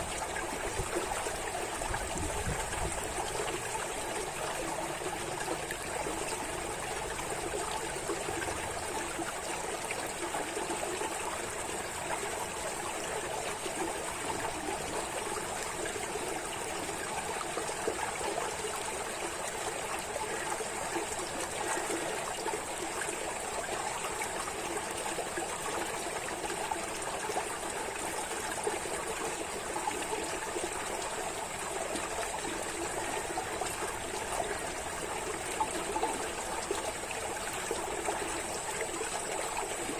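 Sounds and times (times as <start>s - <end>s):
water trickling steadily: 0.0s - 39.9s.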